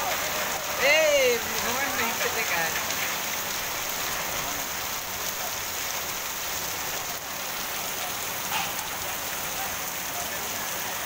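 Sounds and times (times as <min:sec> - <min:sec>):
torrential rain on street: 0:00.0 - 0:11.0.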